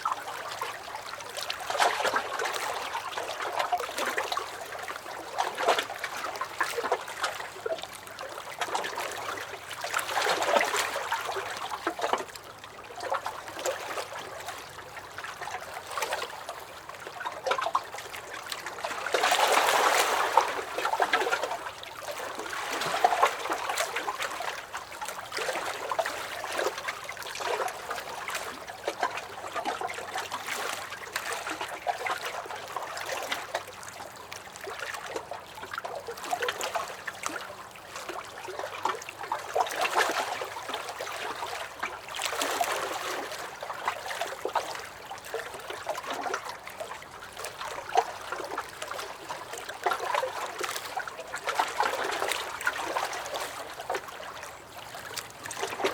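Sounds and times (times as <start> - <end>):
waves lapping against a dock: 0.0 - 55.9.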